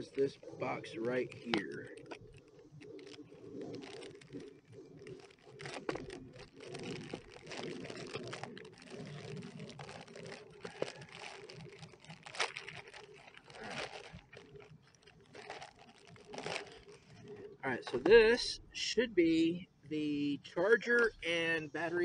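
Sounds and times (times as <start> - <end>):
plastic packaging crinkling: 0.0 - 18.1.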